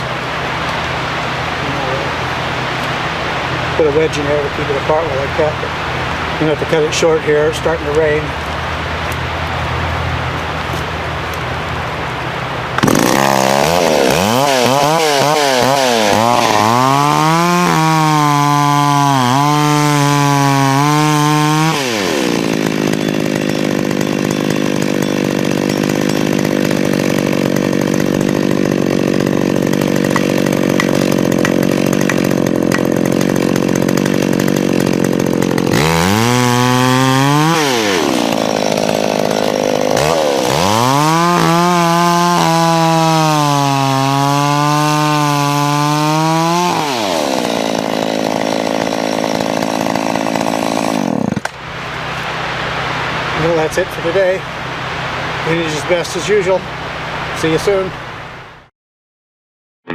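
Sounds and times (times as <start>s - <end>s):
chainsaw cutting log: 0.0s - 8.4s, 12.7s - 54.4s, 57.2s - 58.0s
chainsaw idling and revving: 0.0s - 58.0s.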